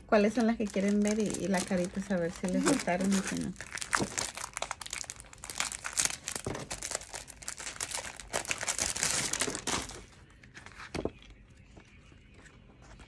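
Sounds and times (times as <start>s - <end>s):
plastic wrap crinkling: 0.1s - 11.3s.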